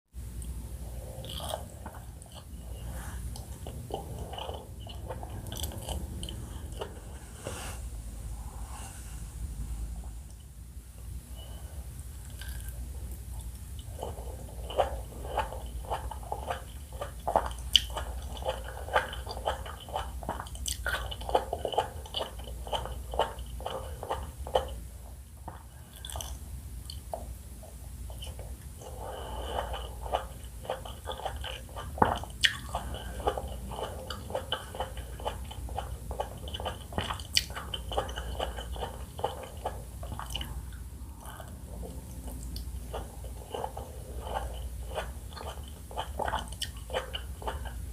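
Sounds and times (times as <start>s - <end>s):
chewing juicy fruit: 0.3s - 7.4s, 12.2s - 47.9s.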